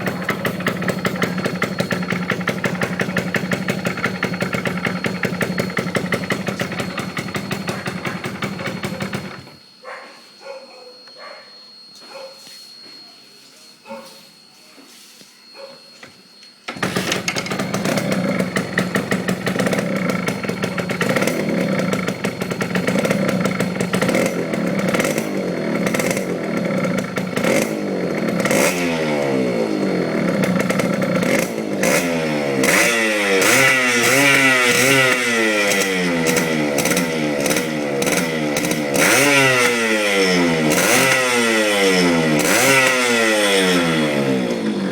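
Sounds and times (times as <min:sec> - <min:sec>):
two-stroke engine idling and revving: 0:00.0 - 0:09.6, 0:16.7 - 0:44.9.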